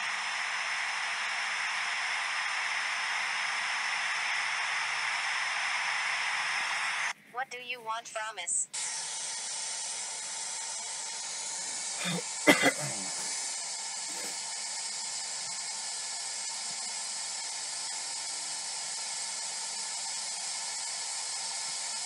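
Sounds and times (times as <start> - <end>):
white noise static hiss: 0.0 - 22.0.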